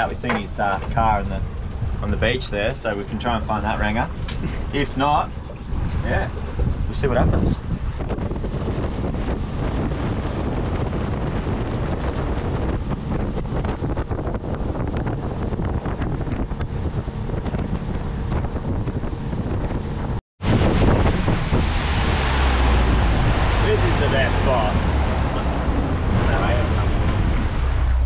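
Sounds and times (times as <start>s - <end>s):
steady low rumble: 0.0s - 28.0s
water rushing against a hull: 0.0s - 28.0s
wind buffeting the microphone: 0.0s - 28.0s.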